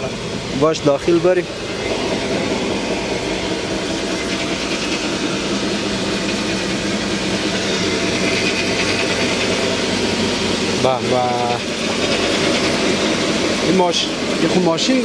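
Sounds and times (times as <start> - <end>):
flour mill machinery humming: 0.0 - 15.0.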